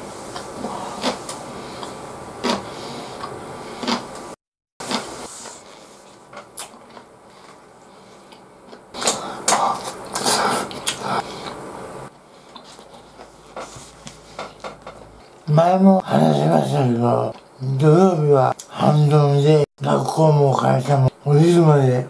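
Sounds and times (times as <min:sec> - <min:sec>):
man eating and chewing: 0:00.2 - 0:19.0.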